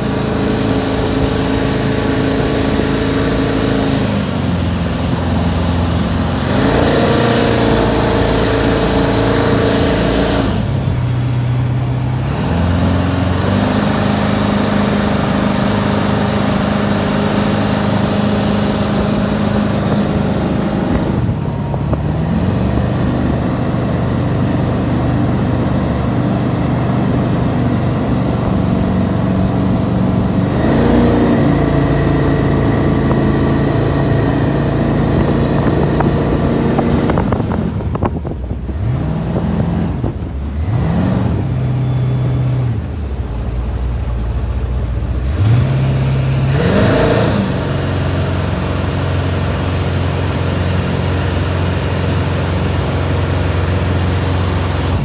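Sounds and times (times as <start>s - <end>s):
jet boat engine running: 0.0s - 55.0s.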